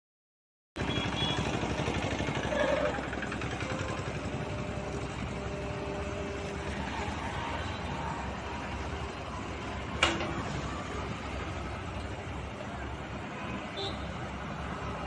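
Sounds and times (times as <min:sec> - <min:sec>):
excavator diesel engine running: 0:00.8 - 0:15.0.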